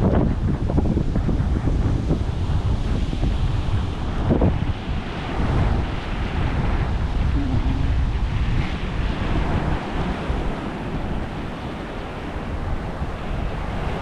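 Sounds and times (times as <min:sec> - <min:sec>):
sea waves washing onto beach: 0:00.0 - 0:14.0
wind buffeting microphone: 0:00.0 - 0:14.0.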